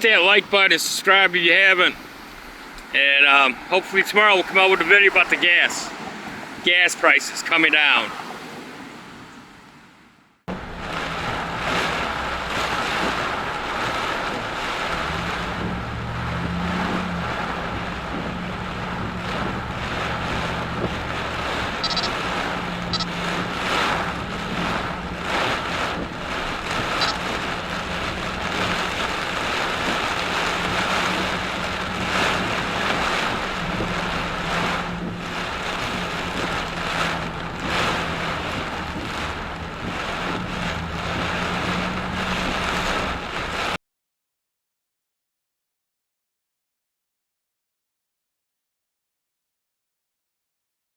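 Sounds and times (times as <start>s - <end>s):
storm wind gusting on microphone: 0.0s - 43.8s.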